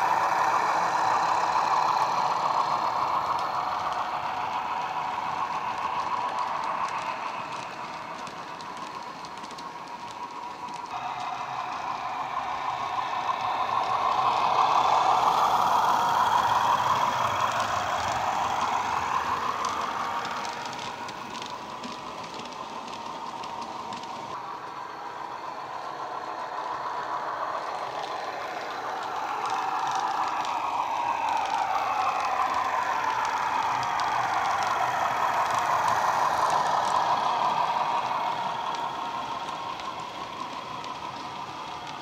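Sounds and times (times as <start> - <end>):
model train diesel engine sound: 0.0 - 42.0.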